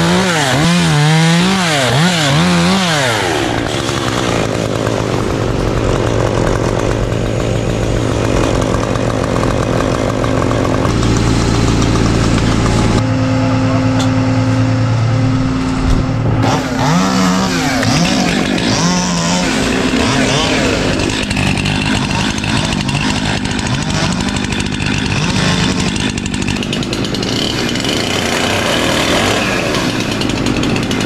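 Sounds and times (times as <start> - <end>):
chainsaw running and revving: 0.0 - 13.0, 16.3 - 31.0.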